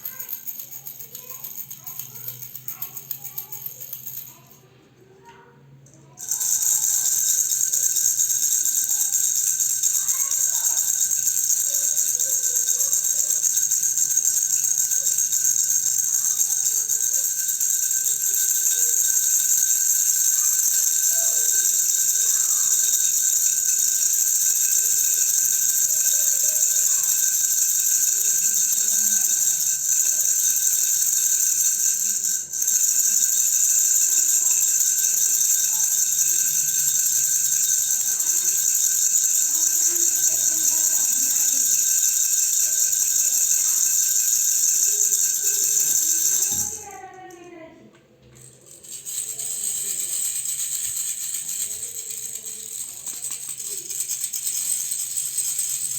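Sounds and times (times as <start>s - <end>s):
toy rattle shaken rapidly: 0.0s - 4.7s, 5.8s - 47.6s, 48.4s - 55.9s.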